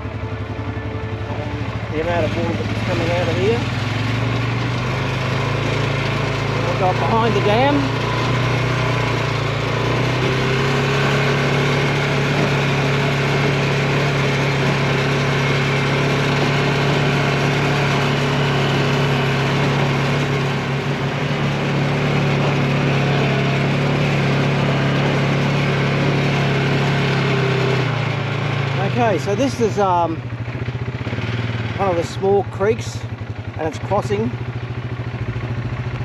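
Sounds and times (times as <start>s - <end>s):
farm vehicle engine running: 0.0s - 36.0s.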